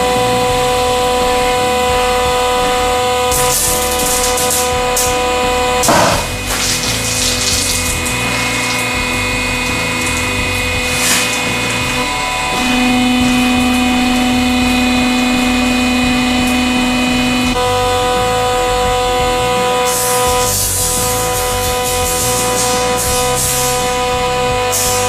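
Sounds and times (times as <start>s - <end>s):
hydraulic pump humming: 0.0s - 25.0s.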